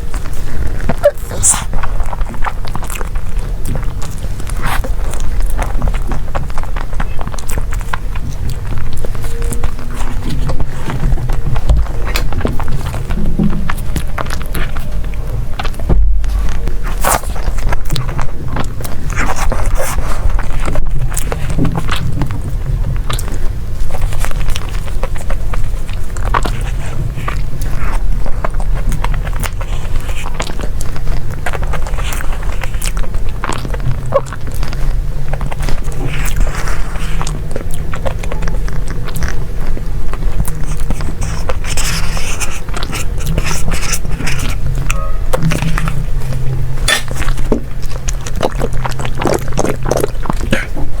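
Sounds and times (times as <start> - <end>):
biting and chewing: 0.0 - 51.0.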